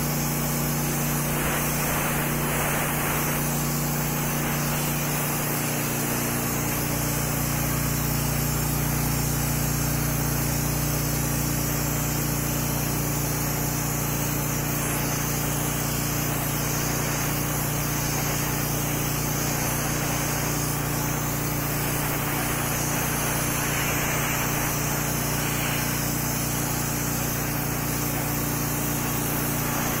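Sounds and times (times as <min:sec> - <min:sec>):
blast nozzle hissing: 0:00.0 - 0:30.0
steady low hum: 0:00.6 - 0:10.2, 0:12.4 - 0:30.0.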